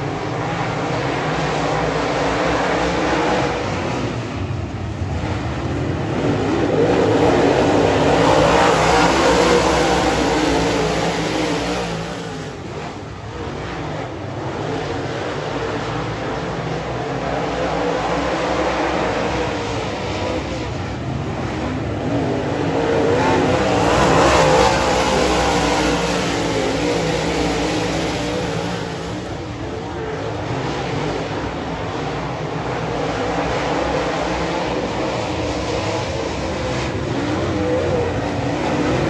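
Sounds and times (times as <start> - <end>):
race car engines at speed: 0.0 - 39.0.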